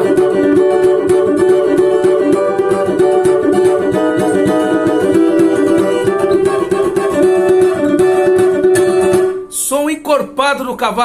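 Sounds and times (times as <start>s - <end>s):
small guitar strummed: 0.0s - 10.4s.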